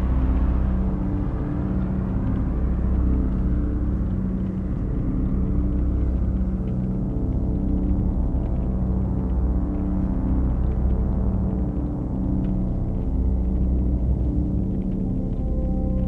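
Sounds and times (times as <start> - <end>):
dark ambient synth drone: 0.0 - 16.0.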